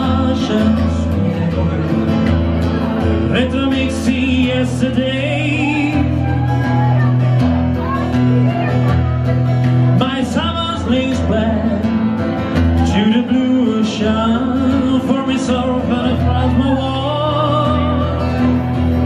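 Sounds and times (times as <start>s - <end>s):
electric bass: 0.0s - 19.0s
strummed acoustic guitar: 0.0s - 19.0s.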